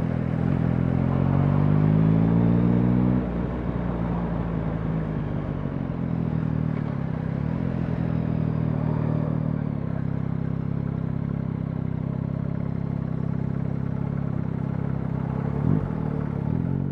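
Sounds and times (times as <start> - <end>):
motorcycle engine at low revs: 0.0 - 16.9.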